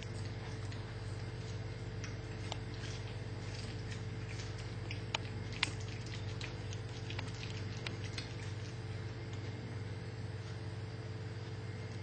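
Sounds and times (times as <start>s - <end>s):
cat chewing and crunching: 0.0s - 9.7s
steady low hum: 0.0s - 12.0s.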